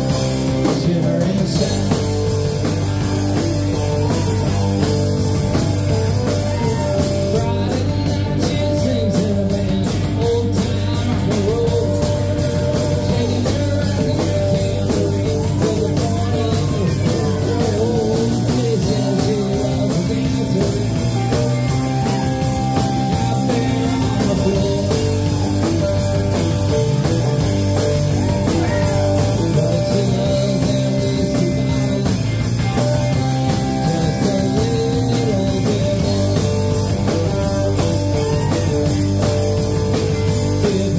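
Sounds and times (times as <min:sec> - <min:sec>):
drums: 0:00.0 - 0:40.9
electric guitars: 0:00.0 - 0:40.9
man singing: 0:00.0 - 0:40.9.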